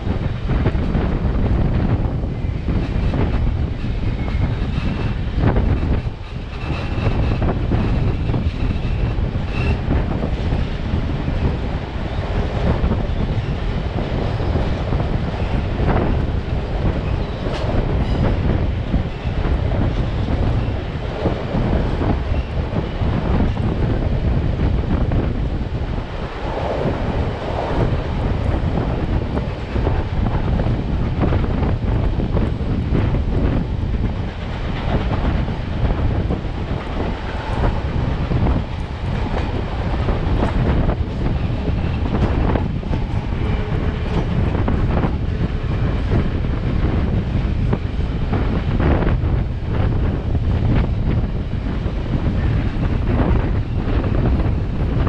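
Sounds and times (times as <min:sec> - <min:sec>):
train wheels rumbling on rails: 0:00.0 - 0:55.0
wind buffeting microphone: 0:00.0 - 0:55.0.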